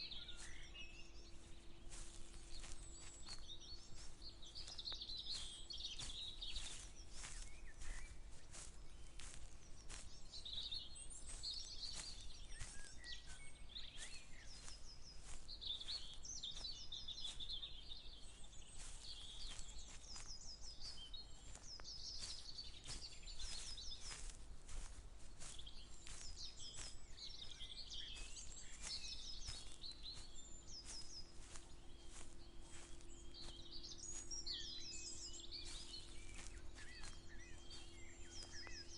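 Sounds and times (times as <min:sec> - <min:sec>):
songbirds chirping: 0:00.0 - 0:38.9
footsteps: 0:01.2 - 0:38.9.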